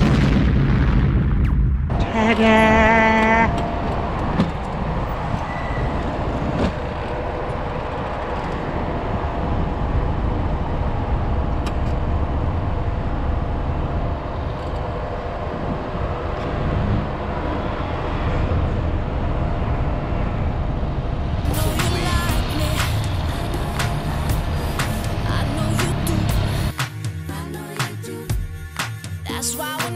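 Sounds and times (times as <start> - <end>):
road traffic: 1.8 - 29.8.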